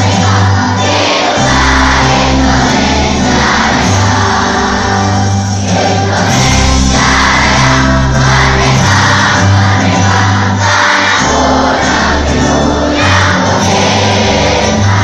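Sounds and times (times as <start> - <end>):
group of voices singing: 0.0 - 15.0
music with strong bass line: 0.0 - 15.0.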